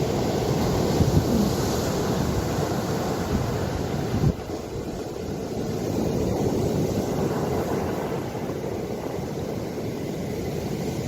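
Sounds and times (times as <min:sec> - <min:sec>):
ocean waves on shore: 0:00.0 - 0:11.0.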